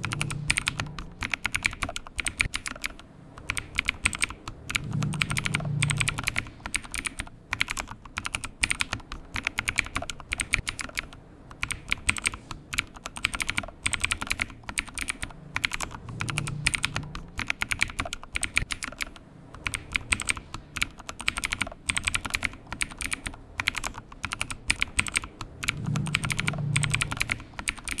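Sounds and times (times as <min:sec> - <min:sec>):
computer keyboard typing: 0:00.0 - 0:28.0.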